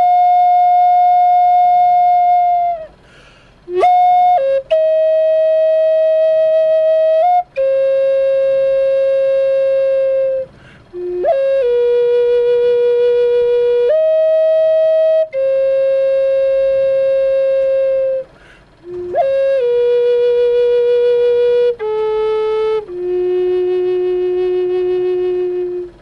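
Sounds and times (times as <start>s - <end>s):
flute playing long notes: 0.0s - 3.0s, 3.6s - 26.0s.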